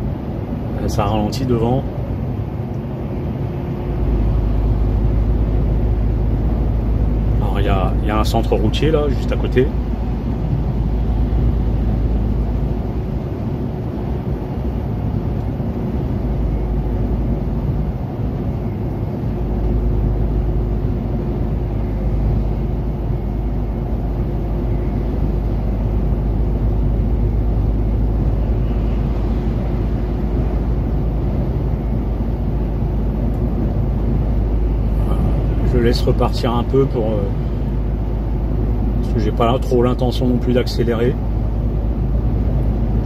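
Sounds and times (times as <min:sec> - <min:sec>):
diesel truck engine drone: 0:00.0 - 0:43.0.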